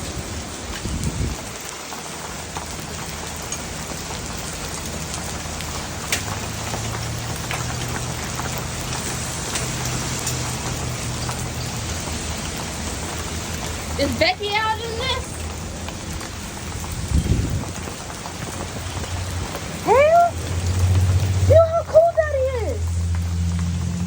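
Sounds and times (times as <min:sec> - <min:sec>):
heavy rain on hard surfaces: 0:00.0 - 0:24.0
raindrops ticking close by: 0:00.0 - 0:24.0.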